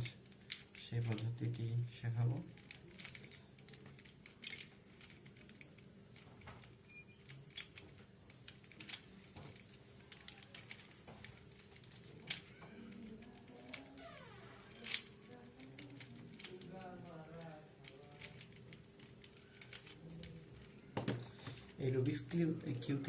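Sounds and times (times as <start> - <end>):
puzzle cube plastic clicks: 0.0 - 23.0.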